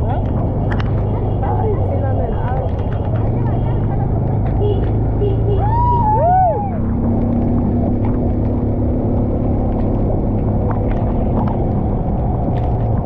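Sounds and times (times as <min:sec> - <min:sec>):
vehicle driving on wet road: 0:00.0 - 0:13.0.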